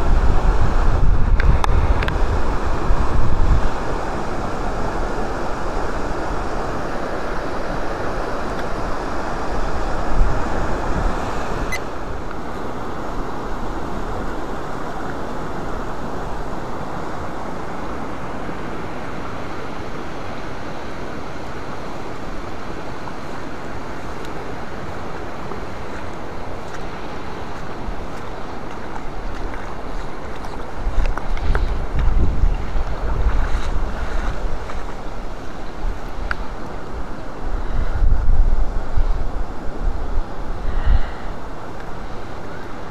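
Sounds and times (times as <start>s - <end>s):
wind buffeting microphone: 0.0s - 18.1s, 24.6s - 42.9s
river water rushing over rapids: 0.0s - 42.9s.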